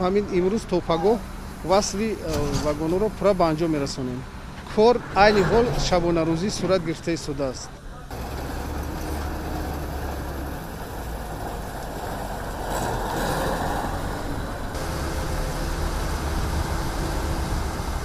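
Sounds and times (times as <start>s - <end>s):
heavy machinery engine rumble: 1.2s - 18.0s.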